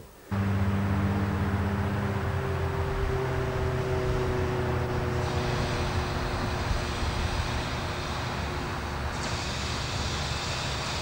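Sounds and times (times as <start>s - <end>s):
tram wheels rumbling: 0.3s - 11.0s.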